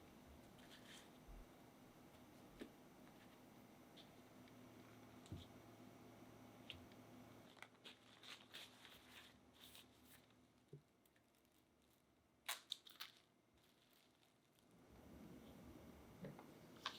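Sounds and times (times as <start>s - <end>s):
low steady hum: 0.0s - 12.4s, 13.1s - 16.9s.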